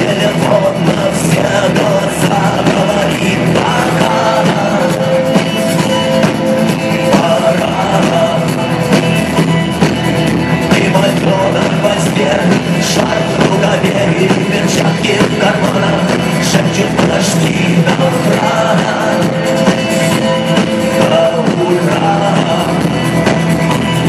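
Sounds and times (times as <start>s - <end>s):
person singing: 0.0s - 9.4s, 10.4s - 24.0s
rock band playing live: 0.0s - 24.0s.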